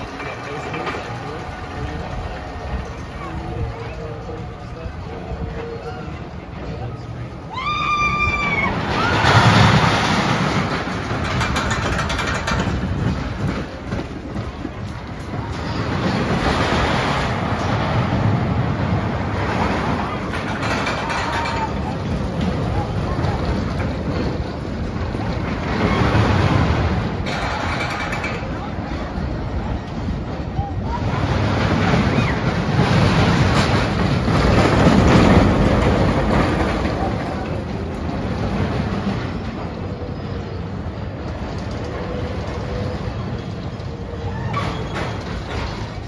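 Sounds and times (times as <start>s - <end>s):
roller coaster rumbling on track: 0.0s - 46.0s.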